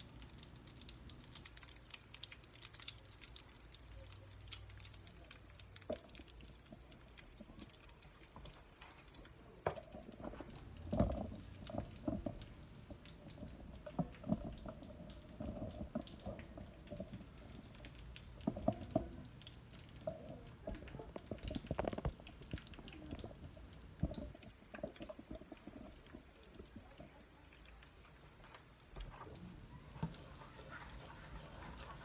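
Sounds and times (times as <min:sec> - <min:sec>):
crackles clicks and knocks: 0:00.0 - 0:32.0
garlic frying in hot oil: 0:00.0 - 0:32.0.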